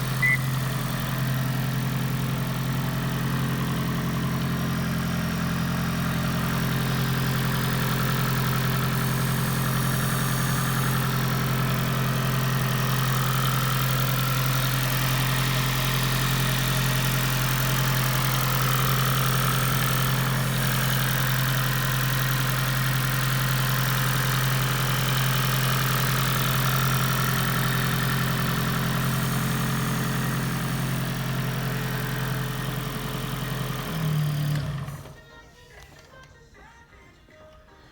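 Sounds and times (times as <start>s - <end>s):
car engine idling: 0.0s - 35.2s.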